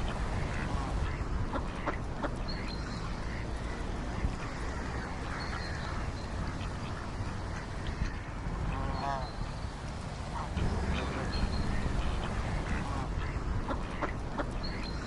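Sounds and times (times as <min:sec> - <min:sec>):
ducks quacking: 0:00.0 - 0:09.6, 0:10.2 - 0:15.0
steady low rumble: 0:00.0 - 0:15.0.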